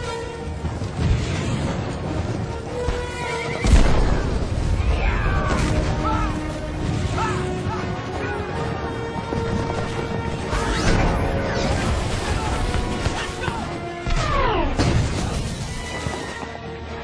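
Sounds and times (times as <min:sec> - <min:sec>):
soundtrack music: 0:00.0 - 0:17.0.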